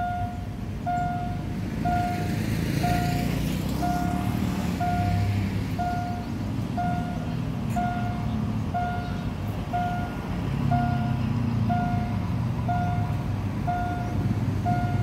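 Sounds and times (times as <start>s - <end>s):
electronic warning beeps: 0.0s - 3.2s, 3.8s - 6.2s, 6.8s - 12.1s, 12.7s - 15.0s
diesel locomotive rumbling: 0.0s - 15.0s.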